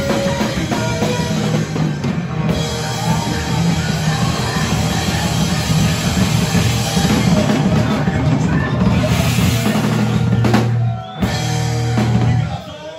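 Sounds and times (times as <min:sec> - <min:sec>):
drum kit: 0:00.0 - 0:12.9
rock band playing loud: 0:00.0 - 0:12.9.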